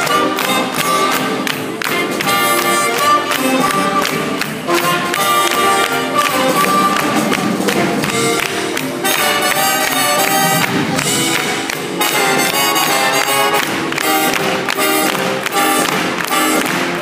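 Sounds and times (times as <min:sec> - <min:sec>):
orchestra playing upbeat show tune: 0:00.0 - 0:17.0.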